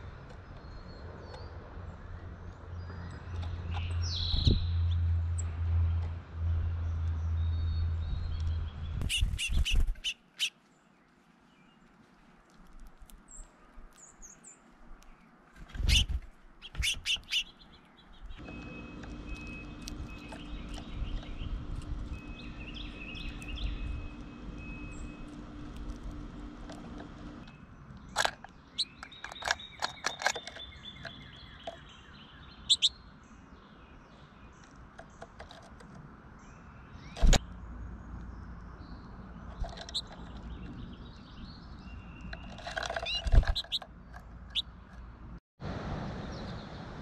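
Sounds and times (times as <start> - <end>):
songbirds chirping: 0.0 - 45.4.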